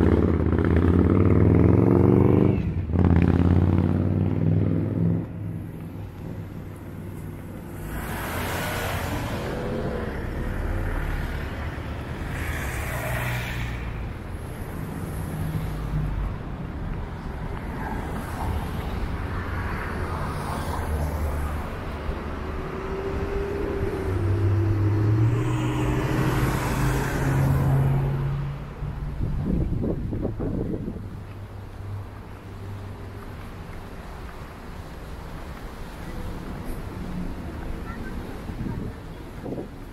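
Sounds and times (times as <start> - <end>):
vehicles passing: 0.0 - 39.9.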